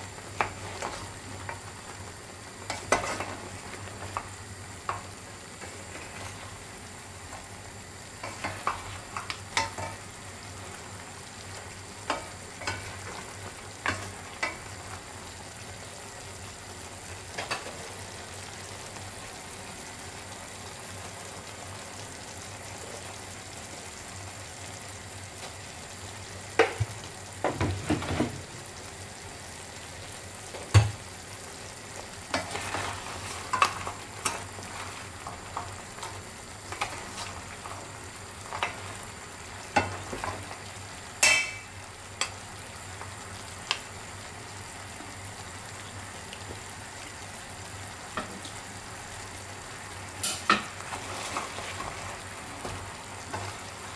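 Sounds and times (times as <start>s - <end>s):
sauce bubbling and sizzling: 0.0s - 53.9s.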